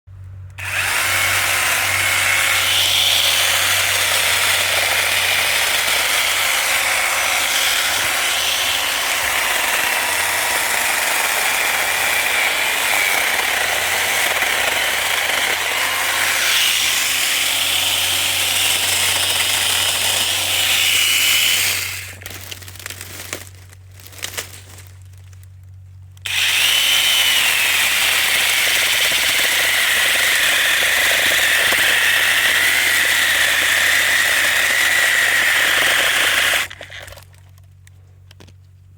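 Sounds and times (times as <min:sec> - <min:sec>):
electric chainsaw whine: 0:00.5 - 0:22.3, 0:26.2 - 0:37.4.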